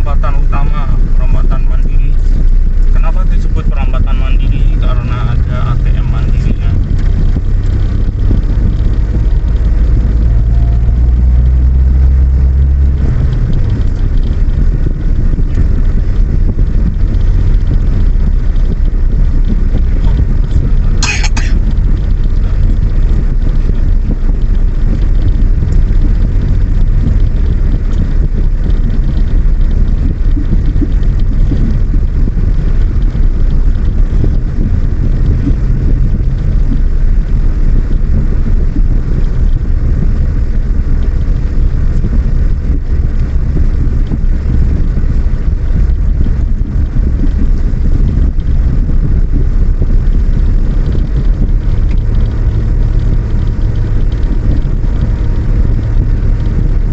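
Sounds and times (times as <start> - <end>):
low road rumble: 0.0 - 56.9
vehicle engine running: 0.0 - 56.9.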